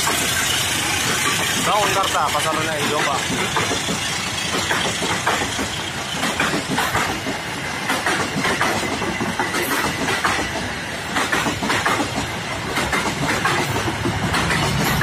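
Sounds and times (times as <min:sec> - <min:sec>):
train coaches rumbling past: 0:00.0 - 0:15.0
wheels clacking over rail joints: 0:00.0 - 0:15.0.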